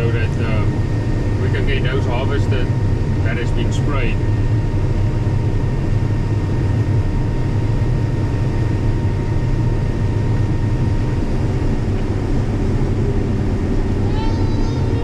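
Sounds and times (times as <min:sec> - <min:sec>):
combine harvester drone: 0:00.0 - 0:15.0
faint steady whine: 0:00.0 - 0:15.0.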